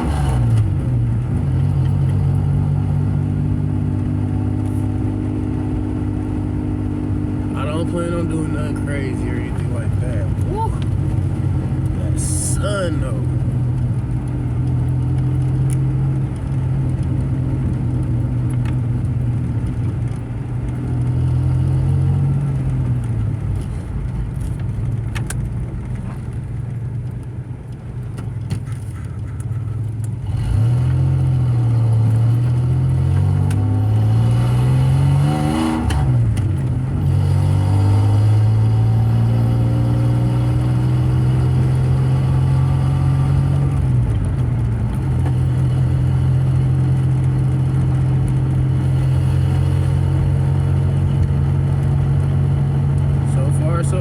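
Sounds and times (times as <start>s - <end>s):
car engine and exhaust droning: 0.0s - 54.0s.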